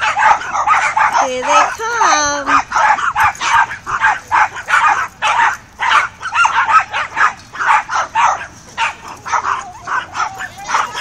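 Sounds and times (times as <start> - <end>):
dog yelps: 0.0 - 11.0
dogs barking and yipping: 0.0 - 11.0.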